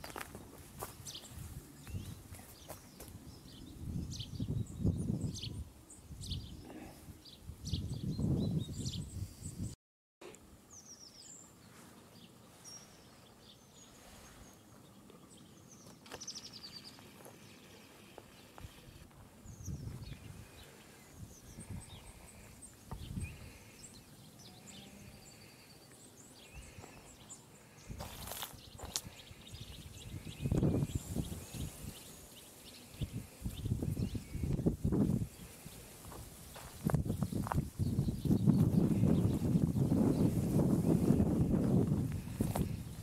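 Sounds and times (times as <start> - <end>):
small birds chirping and twittering: 0.0 - 9.8, 10.6 - 43.0.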